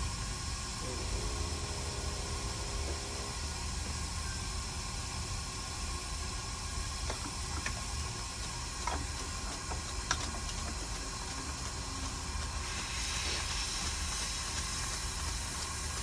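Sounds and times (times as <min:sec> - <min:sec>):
fan-like hiss: 0:00.0 - 0:16.0
low electronic hum: 0:00.0 - 0:16.0.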